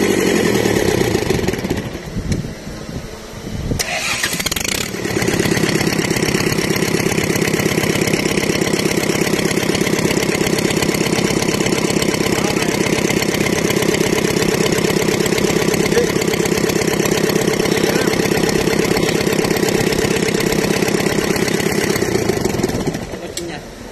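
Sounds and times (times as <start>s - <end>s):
diesel engine running: 0.0s - 23.7s.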